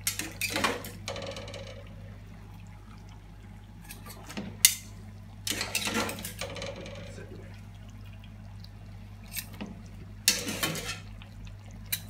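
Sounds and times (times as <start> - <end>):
kitchen hum: 0.0 - 12.0
shellfish simmering in sauce: 0.0 - 12.0.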